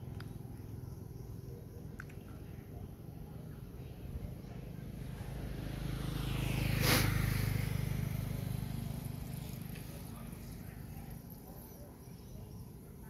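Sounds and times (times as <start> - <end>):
vehicle engine hum passing by: 0.2 - 13.0.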